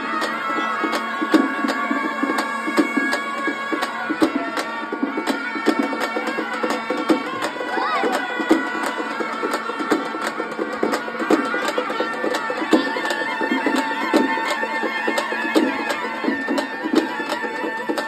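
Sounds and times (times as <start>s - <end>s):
crowd noise: 0.0s - 18.0s
reed wind instrument melody: 0.0s - 18.0s
steady drum beat: 0.0s - 18.0s.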